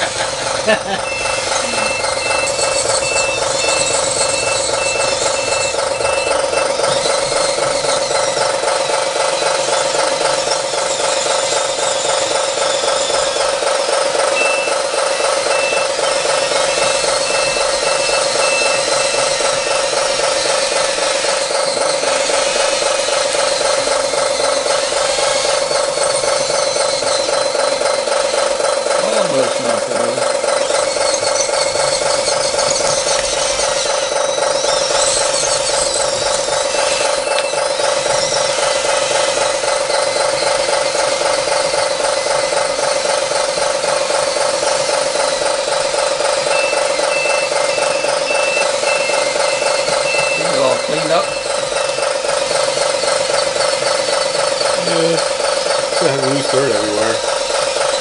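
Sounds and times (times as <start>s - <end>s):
radio-controlled bulldozers droning: 0.0s - 58.0s
reversing alarm beeps: 0.0s - 58.0s.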